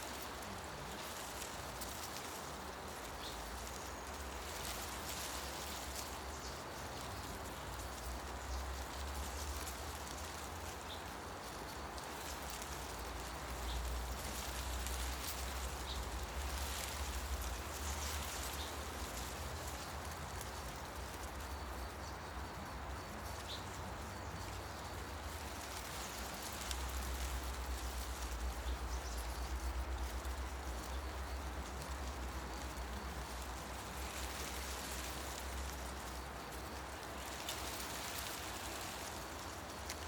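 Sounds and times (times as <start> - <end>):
wind rustling leaves: 0.0 - 40.0.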